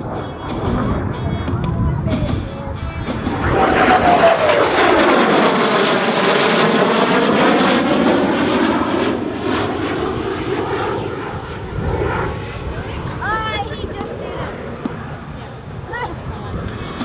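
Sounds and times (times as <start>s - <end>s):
fighter jet passing: 0.0s - 17.0s.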